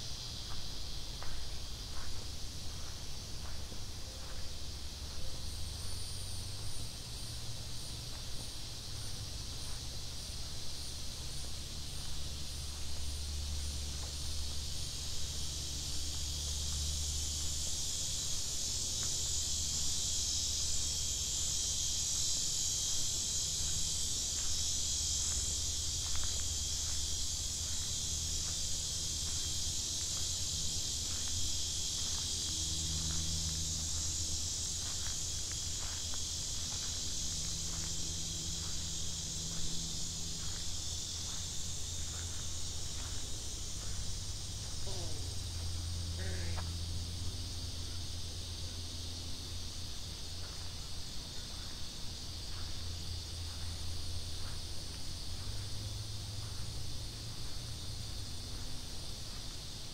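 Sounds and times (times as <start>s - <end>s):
faint footsteps on a path: 0.0s - 59.9s
insect chorus buzzing: 0.0s - 59.9s.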